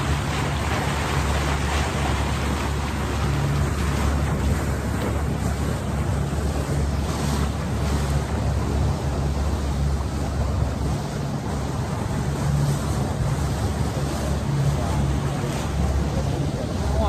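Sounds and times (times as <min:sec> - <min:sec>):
motorboat engine drone: 0:00.0 - 0:17.0
water rushing past hull: 0:00.0 - 0:17.0.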